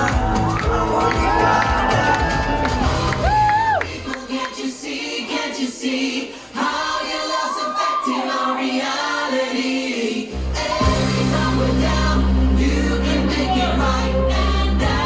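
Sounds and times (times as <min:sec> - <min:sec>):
pop music with layered vocals: 0:00.0 - 0:15.0.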